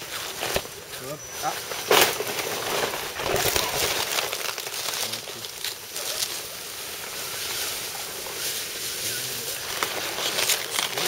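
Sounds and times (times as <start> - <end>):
dry leaves crunching under tyres: 0.0 - 11.0.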